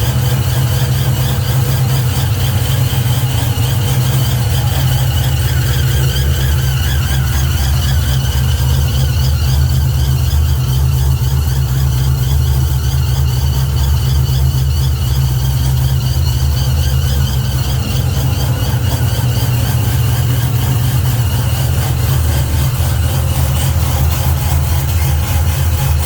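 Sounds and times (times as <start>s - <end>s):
car engine idling: 0.0s - 26.0s
high-pitched whine: 0.0s - 26.0s.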